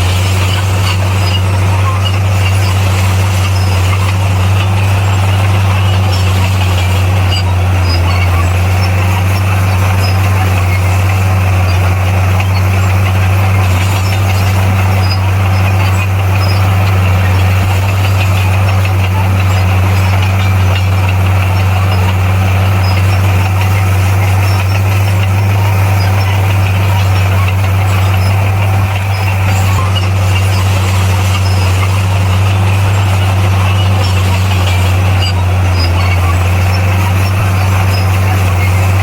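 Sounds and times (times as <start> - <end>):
heavy machine engine droning: 0.0 - 39.0.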